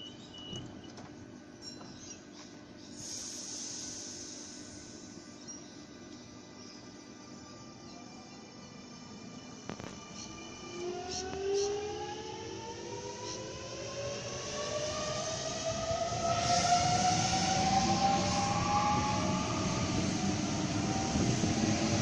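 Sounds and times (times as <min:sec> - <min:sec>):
electric train motors whining: 0:03.2 - 0:22.0.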